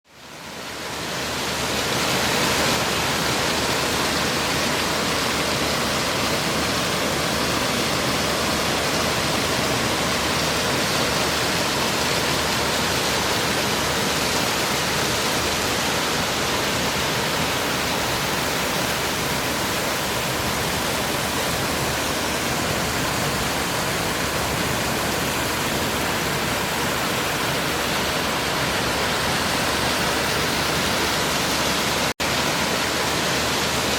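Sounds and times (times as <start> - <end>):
stream water rushing over stones: 0.1 - 33.9.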